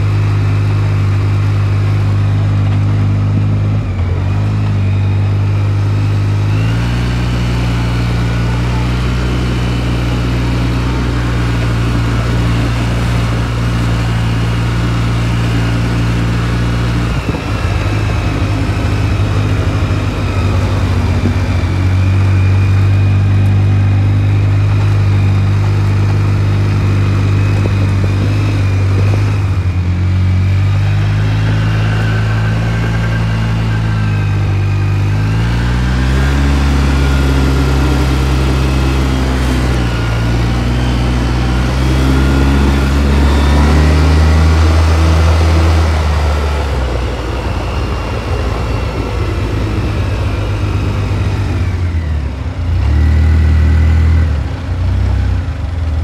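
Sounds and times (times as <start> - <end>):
vehicle engine running: 0.0 - 56.0
faint high whine: 3.6 - 52.4.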